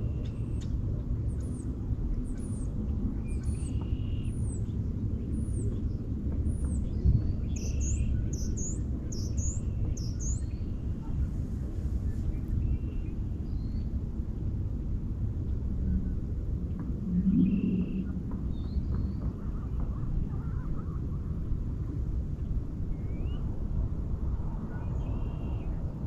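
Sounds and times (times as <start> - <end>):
lake ice low rumble: 0.0 - 26.0.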